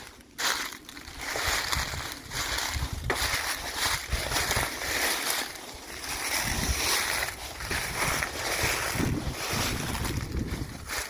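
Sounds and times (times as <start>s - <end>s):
footsteps crunching dry leaves: 0.0s - 11.0s
wind rumbling on microphone: 0.4s - 11.0s.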